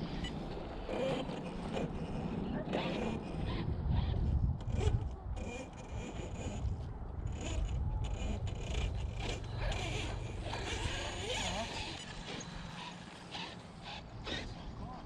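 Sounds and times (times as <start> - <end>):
electric rc truck motors whining: 0.0 - 15.0
tyres scraping on dirt: 0.0 - 15.0.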